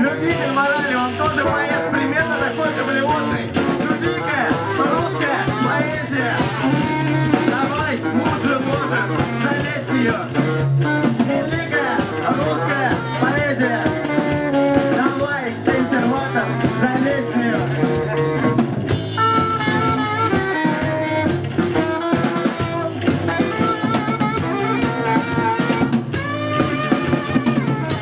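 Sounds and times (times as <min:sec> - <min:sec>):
man singing: 0:00.0 - 0:18.6, 0:20.4 - 0:28.0
live band playing: 0:00.0 - 0:28.0.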